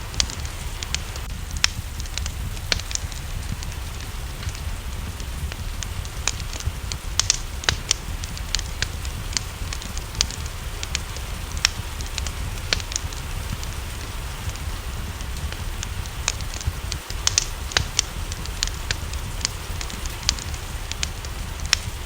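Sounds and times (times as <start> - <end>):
low rumble: 0.0 - 22.0
rain hissing: 0.0 - 22.0
wood fire crackling: 0.0 - 22.0.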